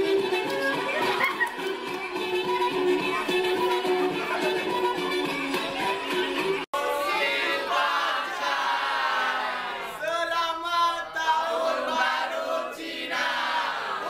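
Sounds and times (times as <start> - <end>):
group singing and chanting: 0.0 - 14.0.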